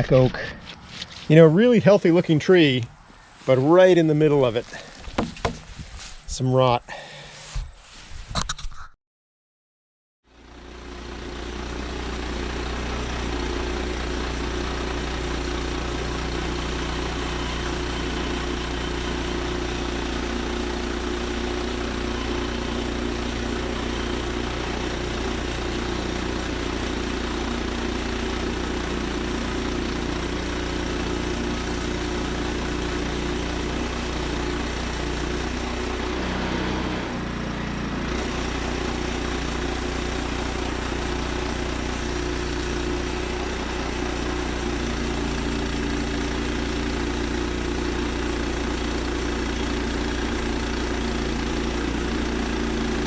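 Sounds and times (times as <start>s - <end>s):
sawmill gas engine running: 0.0s - 6.2s, 6.9s - 7.5s, 10.3s - 53.0s.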